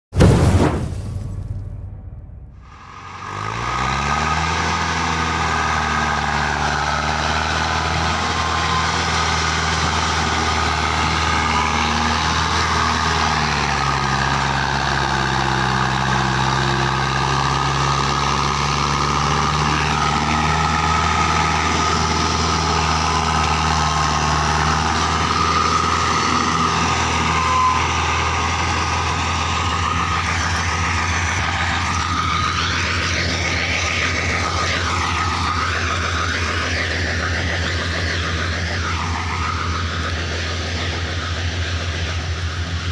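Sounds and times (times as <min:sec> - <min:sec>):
tractor diesel engine under load: 0:01.7 - 0:42.9.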